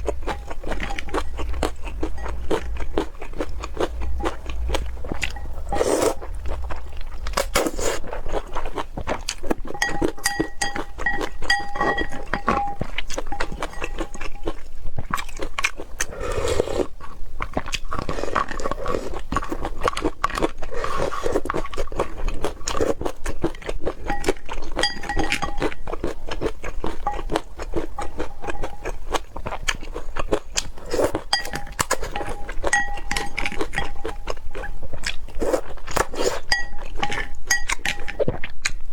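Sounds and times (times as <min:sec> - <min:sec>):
crunching and chewing: 0:00.0 - 0:38.9.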